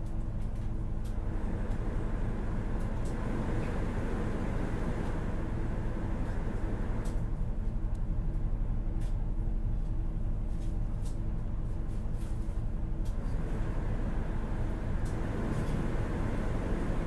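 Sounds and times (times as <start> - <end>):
bus diesel engine humming: 0.8 - 17.0.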